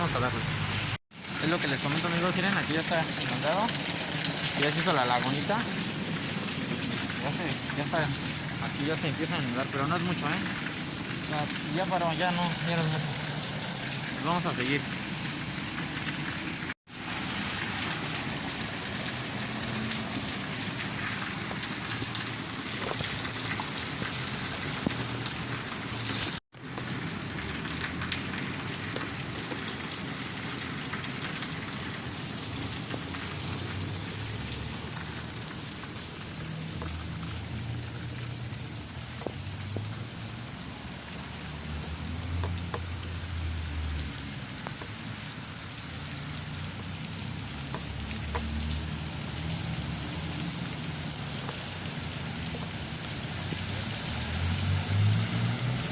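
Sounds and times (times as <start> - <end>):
rain falling on pavement: 0.0 - 55.9.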